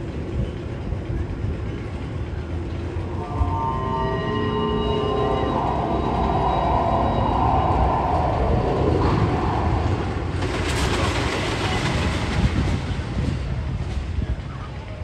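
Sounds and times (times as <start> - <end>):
train running on rails: 0.0 - 15.0.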